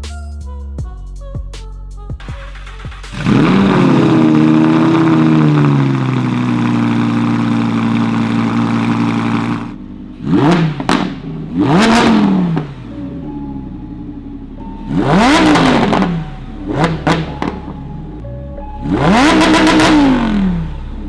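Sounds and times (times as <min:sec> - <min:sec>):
car engine idling: 0:02.2 - 0:21.0
engine throttle blips: 0:02.2 - 0:21.0.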